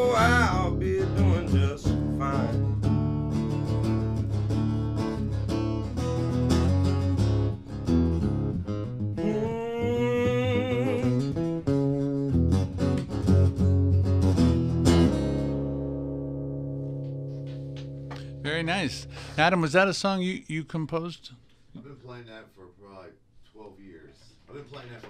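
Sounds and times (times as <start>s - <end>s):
acoustic guitar playing: 0.0s - 20.6s.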